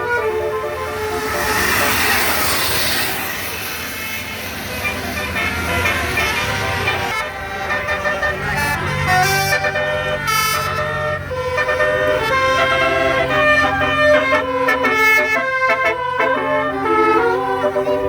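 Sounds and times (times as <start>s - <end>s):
multi-tone bus horn tune: 0.0s - 18.0s.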